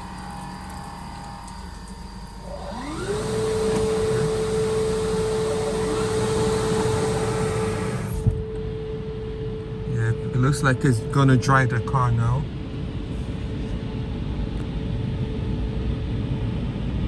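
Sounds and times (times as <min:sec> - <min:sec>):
blower whine: 0:00.0 - 0:16.7.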